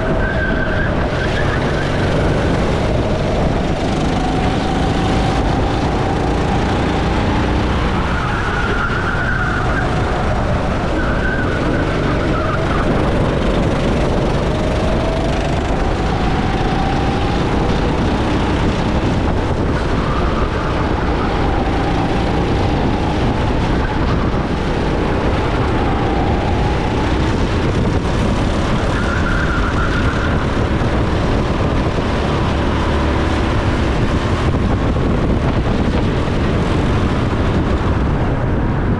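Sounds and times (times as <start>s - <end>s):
go-kart engine revving: 0.0s - 38.6s
wind and track noise: 0.0s - 38.9s.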